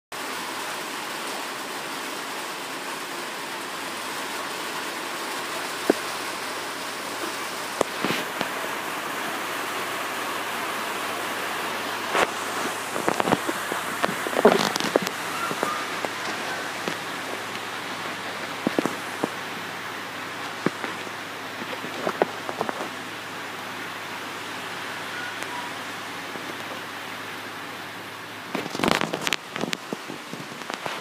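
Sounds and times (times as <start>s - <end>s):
steady hiss: 0.2s - 31.0s.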